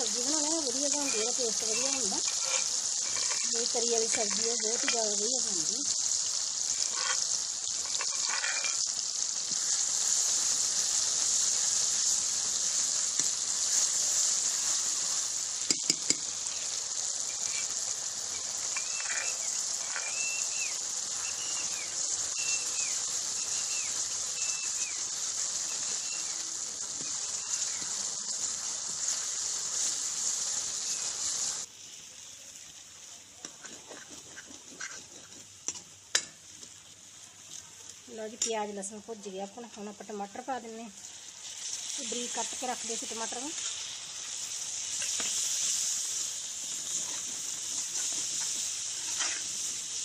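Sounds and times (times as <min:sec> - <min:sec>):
paste sizzling in hot oil: 0:00.0 - 0:50.0.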